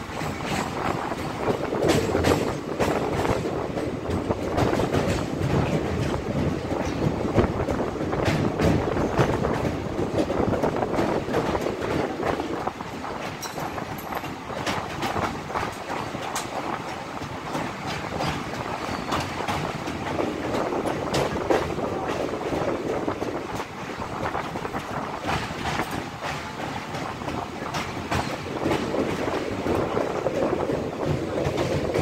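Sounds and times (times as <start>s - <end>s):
train wheels clacking: 0.0s - 32.0s
train wheels rumbling on rails: 0.0s - 32.0s.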